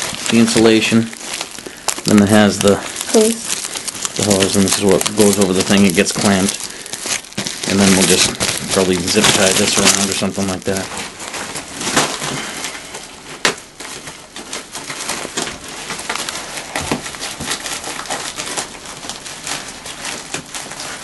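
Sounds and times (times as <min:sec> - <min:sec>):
plastic crinkling and crackling: 0:00.0 - 0:21.0.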